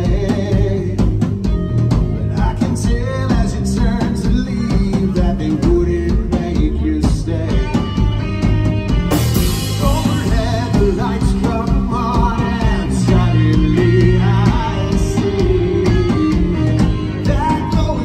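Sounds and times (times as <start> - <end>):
man singing: 0.0 - 1.4, 2.2 - 8.1, 9.3 - 18.0
live rock band: 0.0 - 18.0.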